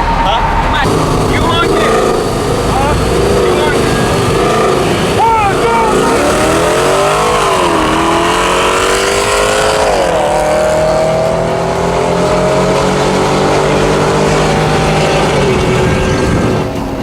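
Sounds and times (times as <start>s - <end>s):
truck engine at full throttle: 0.0s - 17.0s.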